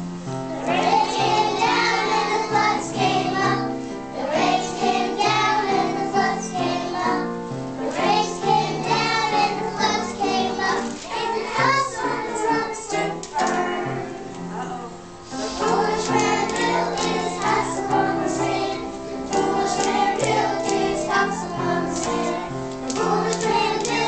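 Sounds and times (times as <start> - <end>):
instrumental accompaniment: 0.0 - 24.0
children singing in unison: 0.5 - 24.0.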